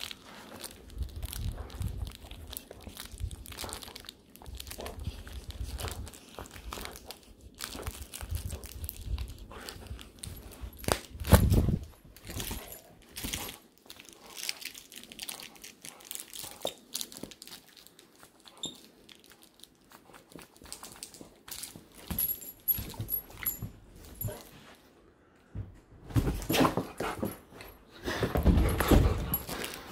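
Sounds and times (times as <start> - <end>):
toy crinkling and rustling: 0.0 - 24.6.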